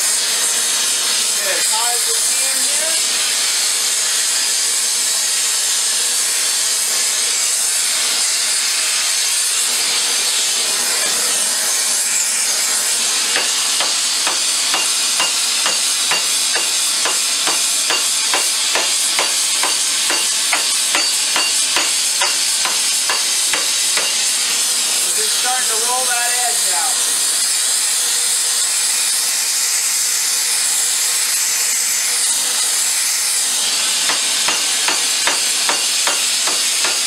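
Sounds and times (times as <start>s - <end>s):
gas torch flame hissing: 0.0s - 37.0s.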